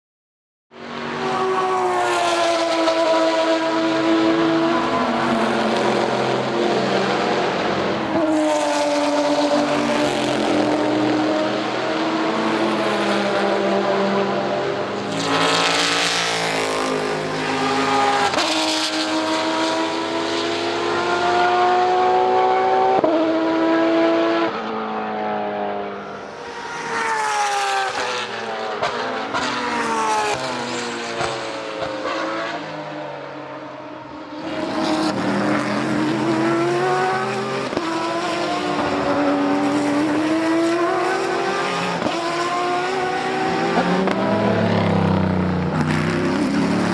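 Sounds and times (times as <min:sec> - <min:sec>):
race car engine at full throttle: 0:00.7 - 0:46.9.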